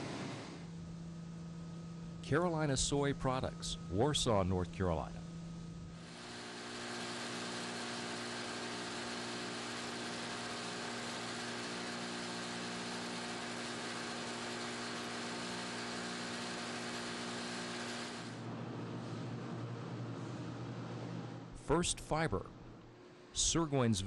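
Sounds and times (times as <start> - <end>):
hammer mill humming: 0.0 - 24.0
lower machine hum: 0.0 - 24.0.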